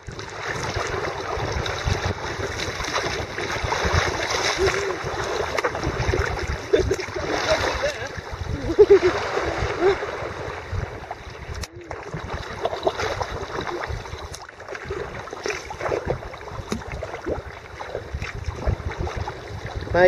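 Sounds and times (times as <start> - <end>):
water splashing around paddle: 0.0 - 20.0
wind rumble on microphone: 0.0 - 20.0.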